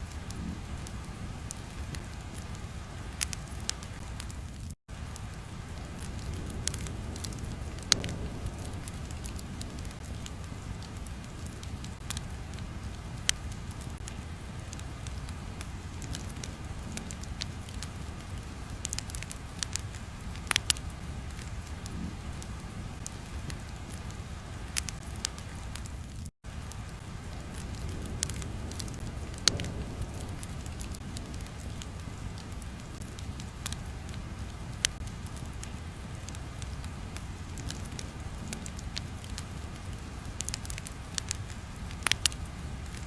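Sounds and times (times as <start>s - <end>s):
crackles and pops: 0.0s - 43.0s.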